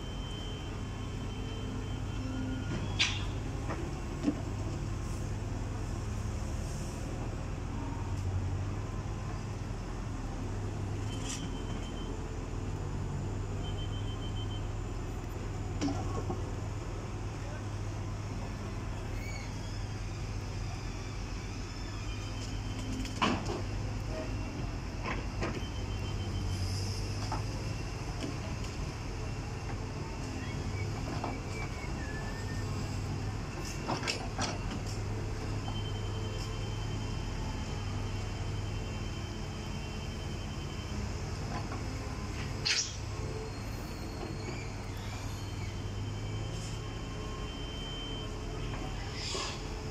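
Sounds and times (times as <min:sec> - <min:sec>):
excavator diesel engine humming: 0:00.0 - 0:49.9.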